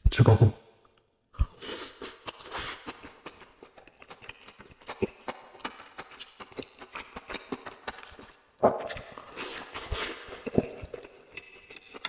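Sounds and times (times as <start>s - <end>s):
chewing with wet mouth clicks: 2.0s - 12.0s.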